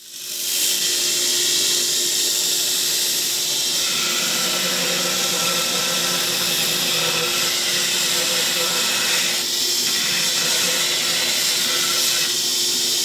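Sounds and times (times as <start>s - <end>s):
belt grinder grinding steel: 2.3s - 12.8s.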